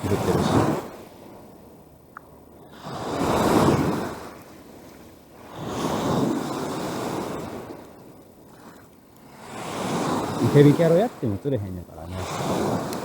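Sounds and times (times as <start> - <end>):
waves washing onto shore: 0.0 - 13.0
wind: 0.0 - 13.0.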